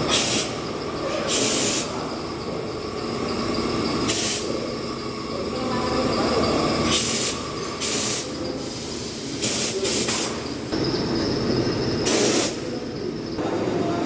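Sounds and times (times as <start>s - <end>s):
machine humming: 0.0s - 7.8s, 10.5s - 14.0s.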